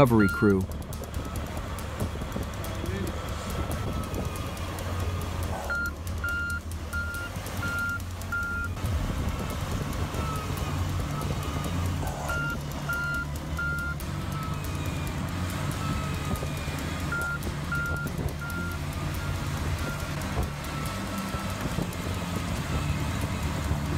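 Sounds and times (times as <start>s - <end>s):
reversing alarm beeping: 0.0s - 1.8s, 3.4s - 8.8s, 9.4s - 21.9s
bulldozer diesel engine running: 0.0s - 23.9s.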